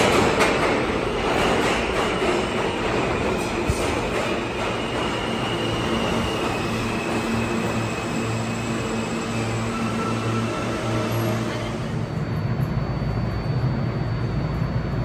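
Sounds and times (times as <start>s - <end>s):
standing train low hum: 0.0s - 15.0s
train wheels rolling on track: 0.0s - 15.0s.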